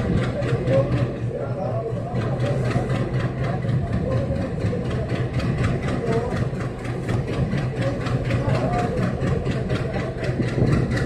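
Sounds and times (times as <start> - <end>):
diesel train engine droning: 0.0 - 11.0
fast even train clatter: 0.0 - 11.0.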